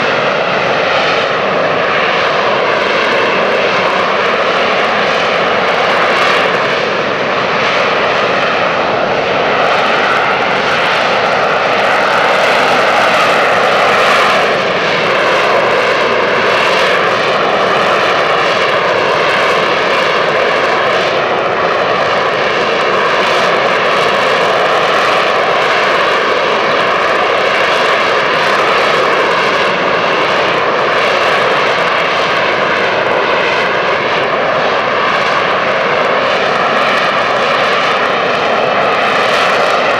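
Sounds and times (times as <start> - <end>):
jet engine roaring and whining: 0.0 - 39.9.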